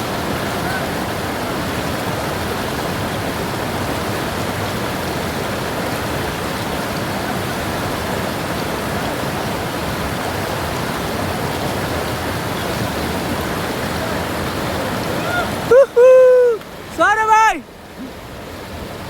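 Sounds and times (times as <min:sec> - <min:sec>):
rushing water and surf: 0:00.0 - 0:19.0.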